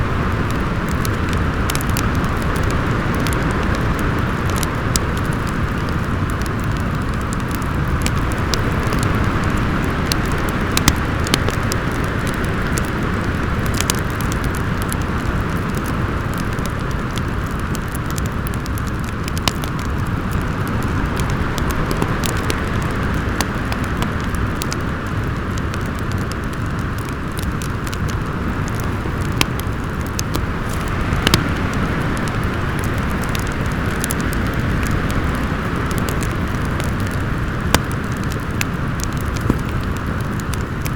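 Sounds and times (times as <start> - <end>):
storm wind blowing: 0.0 - 40.9
wood fire crackling: 0.0 - 40.9.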